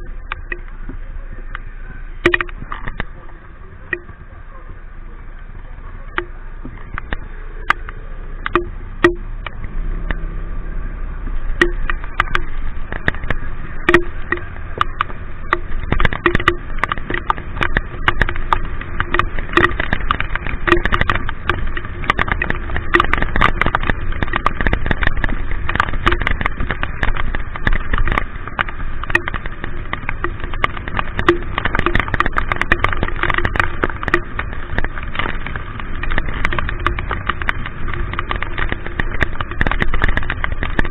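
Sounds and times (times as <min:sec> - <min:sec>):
raindrops tapping on camera: 0:00.0 - 0:40.9
road and traffic noise: 0:00.0 - 0:40.9.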